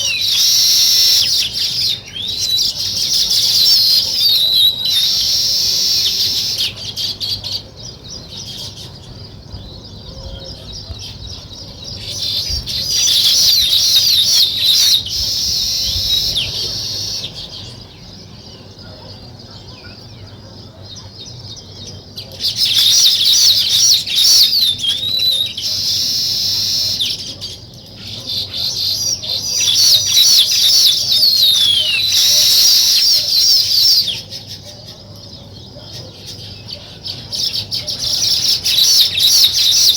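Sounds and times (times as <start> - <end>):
weaver birds chattering: 0.0 - 39.9.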